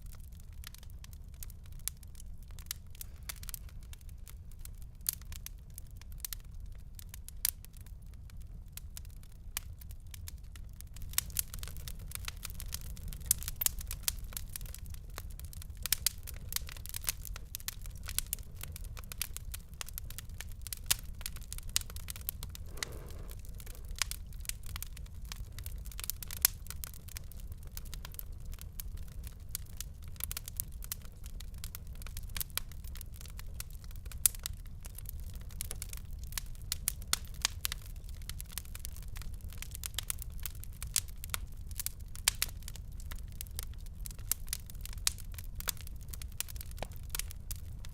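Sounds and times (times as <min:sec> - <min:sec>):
low fire rumble: 0:00.0 - 0:47.9
wood fire crackling: 0:00.0 - 0:47.9.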